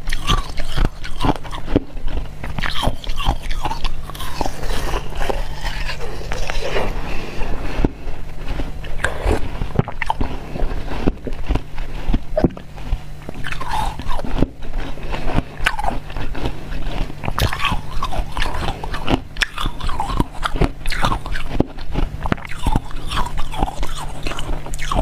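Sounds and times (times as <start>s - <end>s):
ice crunching while chewed: 0.0s - 25.0s
steady low hum: 0.0s - 25.0s.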